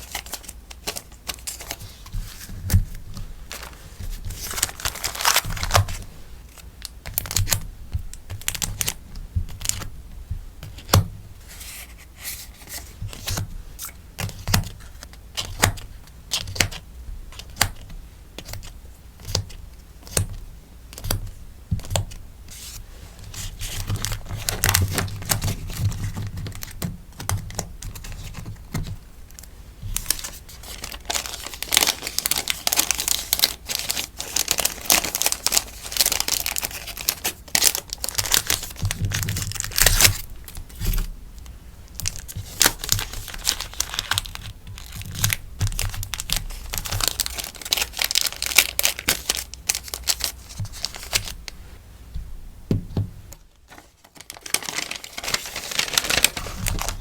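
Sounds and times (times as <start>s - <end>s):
packaging crinkling and rustling: 0.0s - 10.0s, 10.7s - 51.6s, 53.3s - 57.0s.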